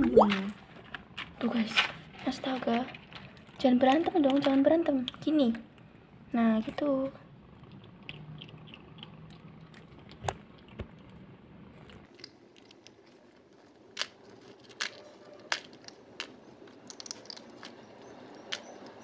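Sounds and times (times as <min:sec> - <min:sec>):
kittens crunching dry kibble: 0:00.3 - 0:05.9, 0:07.4 - 0:19.0.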